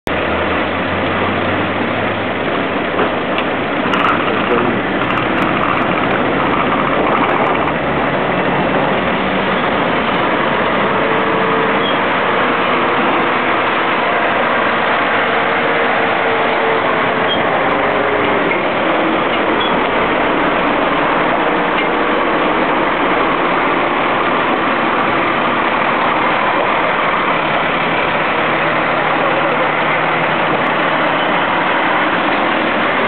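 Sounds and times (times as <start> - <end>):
lorry diesel engines running: 0.1 - 33.0.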